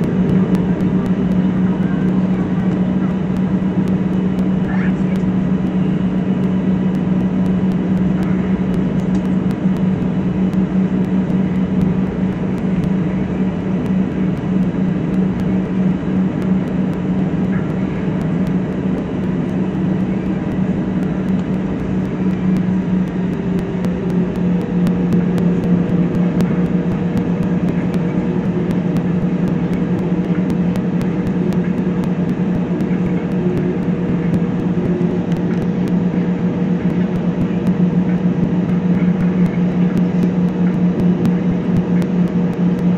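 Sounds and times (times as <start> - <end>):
faint engine whine: 0.0 - 42.9
jet engines low drone: 0.0 - 42.9.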